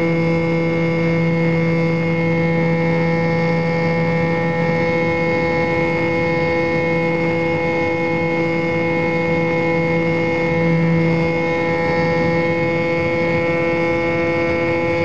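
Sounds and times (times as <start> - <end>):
model airplane motor droning: 0.0 - 15.0.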